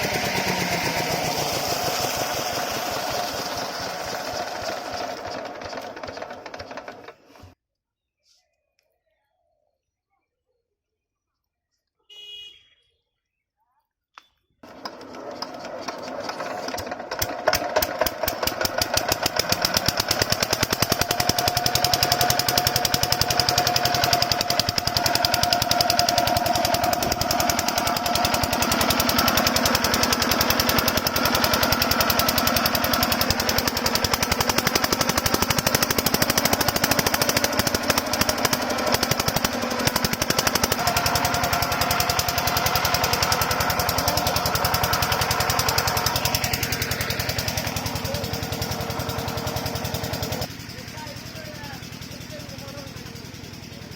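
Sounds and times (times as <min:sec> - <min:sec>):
small diesel engine running: 0:00.0 - 0:07.6, 0:14.6 - 0:53.9.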